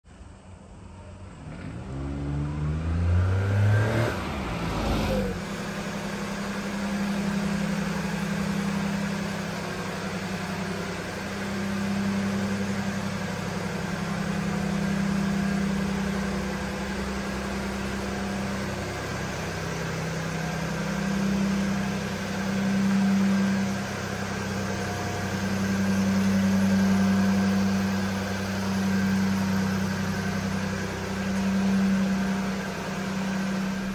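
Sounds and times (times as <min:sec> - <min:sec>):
small truck engine revving and idling: 0:00.2 - 0:33.9.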